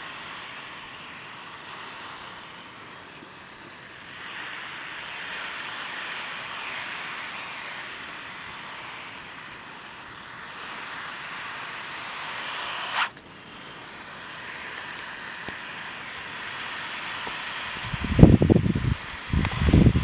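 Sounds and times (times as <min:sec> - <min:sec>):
snake rasping hiss: 0:00.0 - 0:20.0.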